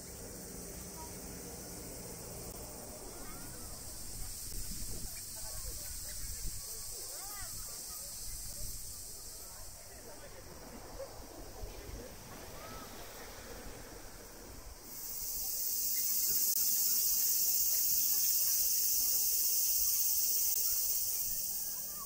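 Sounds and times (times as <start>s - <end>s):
cicadas calling: 0.0s - 22.0s.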